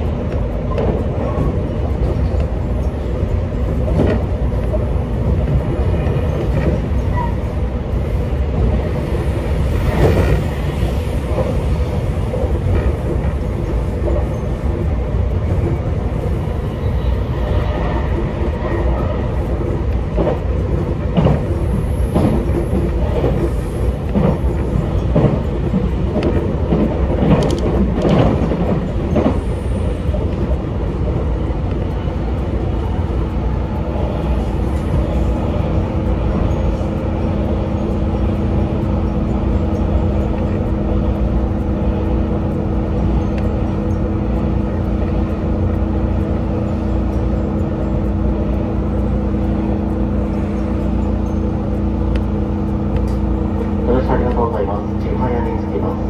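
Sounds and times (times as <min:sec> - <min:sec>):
train rumble: 0:00.0 - 0:56.0
wheels clacking over rail joints: 0:00.0 - 0:56.0.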